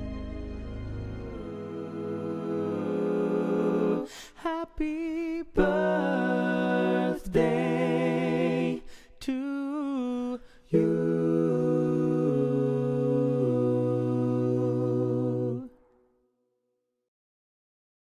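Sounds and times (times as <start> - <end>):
wordless a cappella singing: 1.2 - 15.9.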